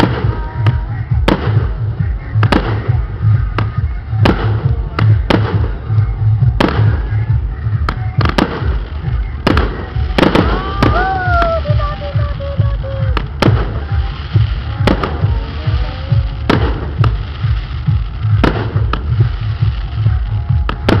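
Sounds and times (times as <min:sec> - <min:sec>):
fireworks bursting: 0:00.0 - 0:21.0
low rumble: 0:00.0 - 0:21.0.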